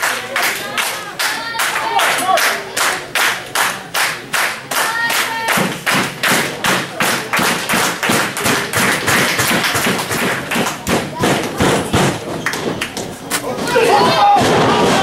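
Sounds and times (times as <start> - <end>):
crowd clapping in rhythm: 0.0 - 13.2.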